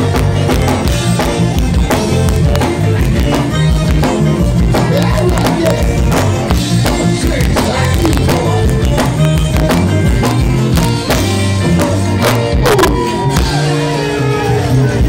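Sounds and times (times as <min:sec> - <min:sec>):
drum kit dance beat: 0:00.0 - 0:15.0
electric guitar: 0:00.0 - 0:15.0.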